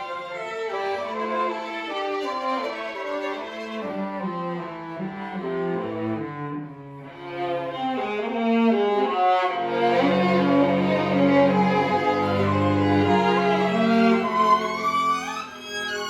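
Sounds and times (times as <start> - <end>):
bowed strings with cello: 0.0 - 16.0.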